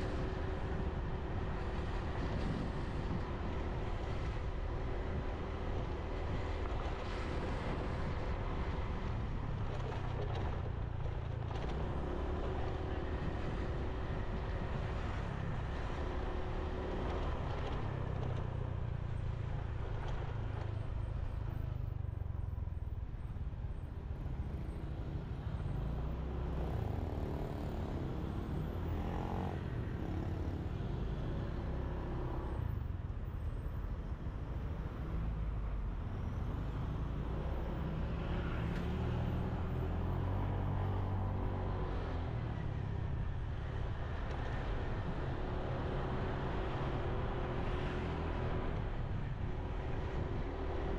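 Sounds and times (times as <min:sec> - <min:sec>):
road rumble: 0:00.0 - 0:50.9
wind: 0:00.0 - 0:50.9.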